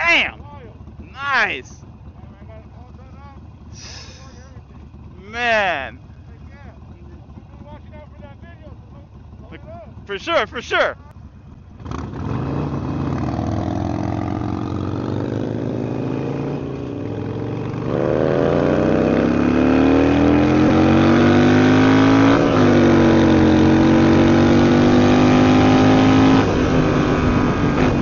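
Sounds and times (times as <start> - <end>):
motorcycle accelerating: 0.0 - 28.0.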